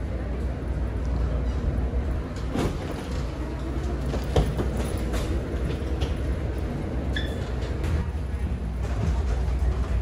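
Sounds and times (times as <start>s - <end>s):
low rumble of background noise: 0.0s - 10.0s.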